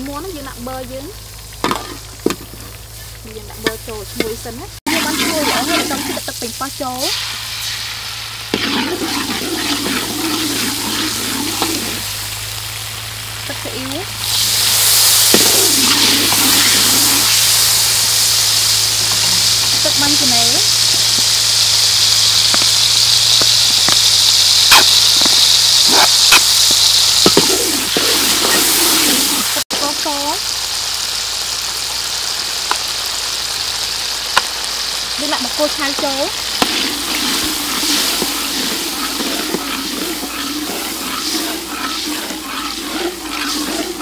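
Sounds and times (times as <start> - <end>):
hot oil sizzling in a wok: 0.0 - 44.0
oil popping: 1.2 - 6.4, 7.0 - 13.6, 14.2 - 29.6, 32.6 - 44.0.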